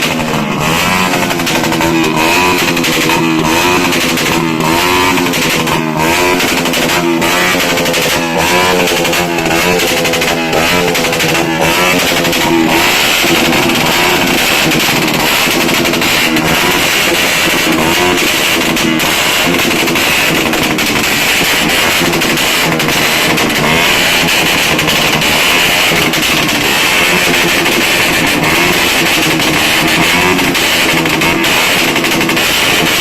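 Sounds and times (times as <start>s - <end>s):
guitar music with steady beat: 0.0s - 33.0s.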